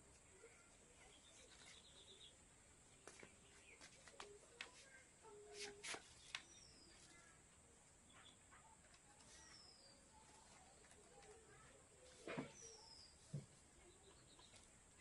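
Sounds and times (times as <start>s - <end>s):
faint bird chirps: 0.3s - 7.4s, 8.0s - 15.0s.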